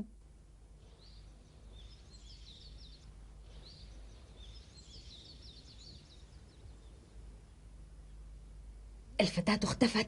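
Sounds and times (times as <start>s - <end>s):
faint birdsong chirps and trills: 0.0s - 10.0s
low steady background hum: 0.0s - 10.0s.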